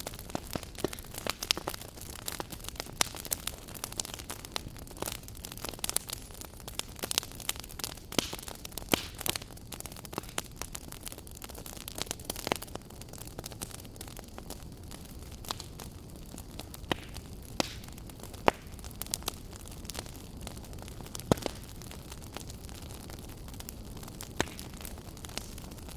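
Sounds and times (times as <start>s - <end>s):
wood fire crackling and popping: 0.0s - 25.9s.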